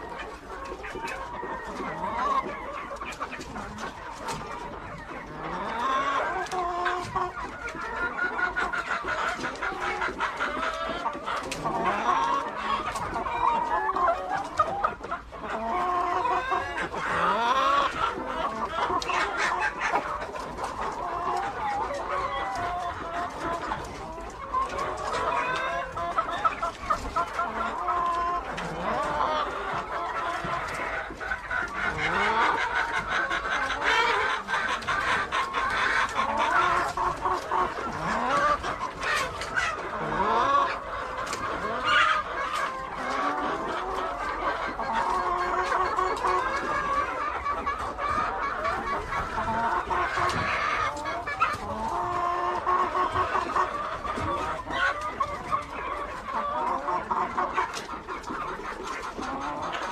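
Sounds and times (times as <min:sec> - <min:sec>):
hens clucking: 0:00.0 - 0:59.9.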